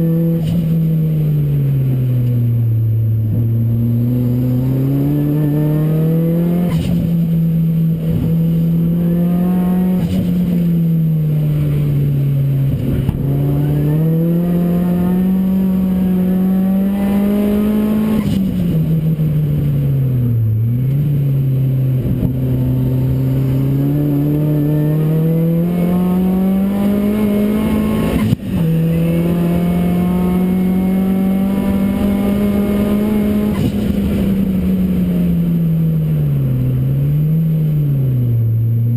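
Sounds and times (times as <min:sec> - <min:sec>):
racing car engine revving: 0:03.0 - 0:38.9.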